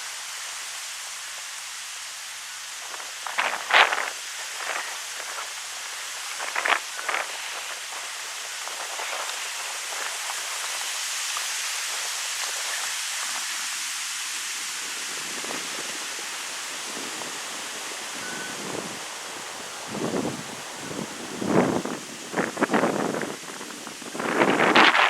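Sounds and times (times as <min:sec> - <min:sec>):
leaf rustles: 0:00.0 - 0:25.0
wind through trees: 0:00.0 - 0:25.0.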